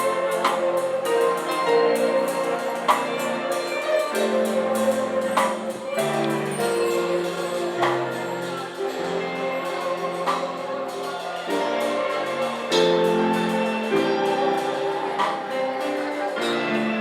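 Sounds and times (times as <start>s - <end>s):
church music chords: 0.0s - 17.0s
percussion beat: 0.0s - 17.0s.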